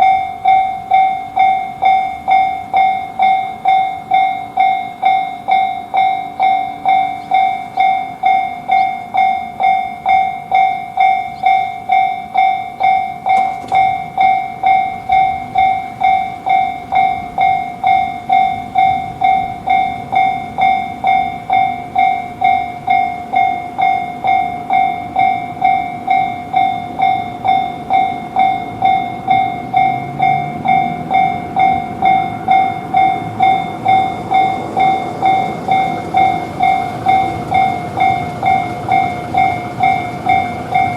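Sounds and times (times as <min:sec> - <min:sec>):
railroad crossing bell: 0:00.0 - 0:40.9
train running: 0:00.0 - 0:40.9.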